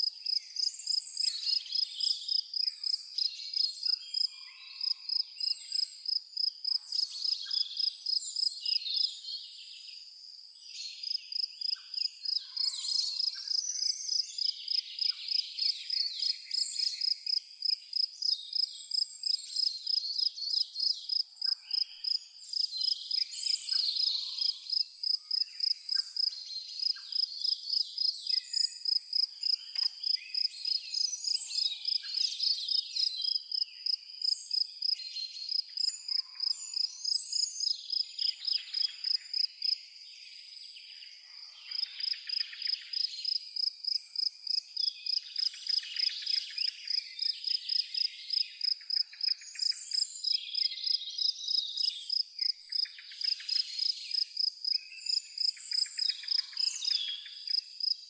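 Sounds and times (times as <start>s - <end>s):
cricket chirping: 0.0s - 9.1s, 9.7s - 41.0s, 41.7s - 58.0s.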